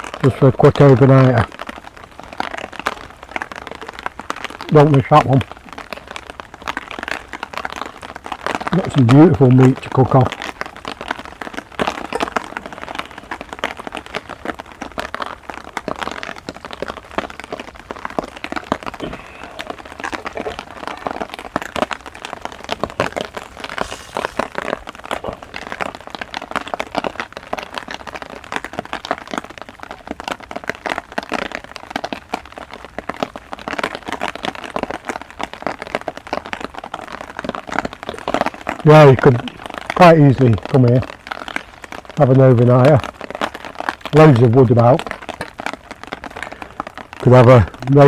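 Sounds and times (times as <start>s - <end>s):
heavy rain on umbrella: 0.0s - 48.0s.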